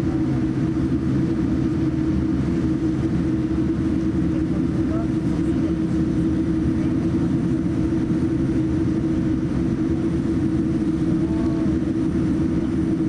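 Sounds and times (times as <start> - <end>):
aircraft cabin rumble: 0.0 - 13.0
engine and systems hum: 0.0 - 13.0.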